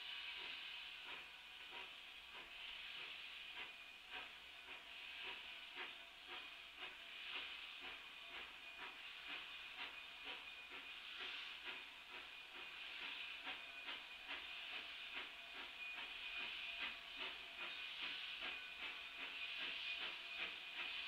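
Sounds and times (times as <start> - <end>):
distant steam locomotive chuffing: 0.0 - 21.0
steam hiss: 0.0 - 21.0.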